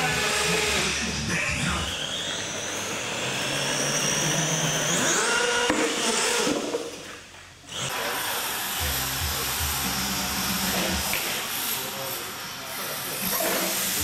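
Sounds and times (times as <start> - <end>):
toy truck motor whining: 0.0 - 6.9, 7.7 - 14.0.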